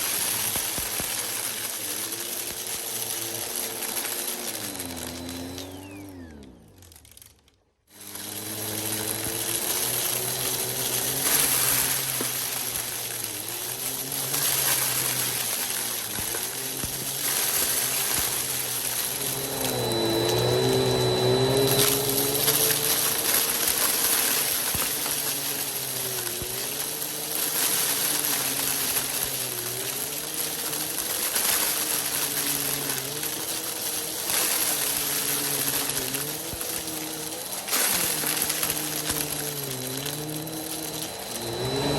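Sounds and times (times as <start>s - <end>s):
hard pieces rattling through vacuum: 0.0s - 41.9s
vacuum cleaner running: 0.0s - 41.9s.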